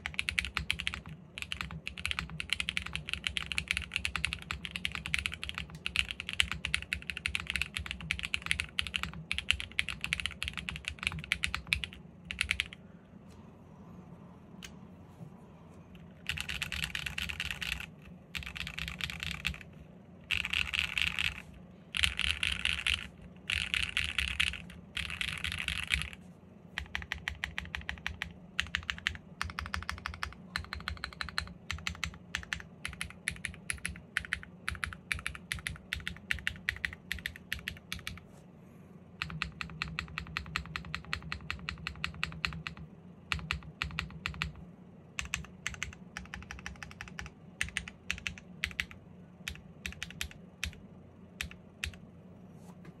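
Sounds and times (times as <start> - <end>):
typing on mechanical keyboard: 0.0 - 12.8, 16.2 - 26.2, 26.8 - 38.2, 39.2 - 44.6, 45.2 - 50.8, 51.4 - 52.0.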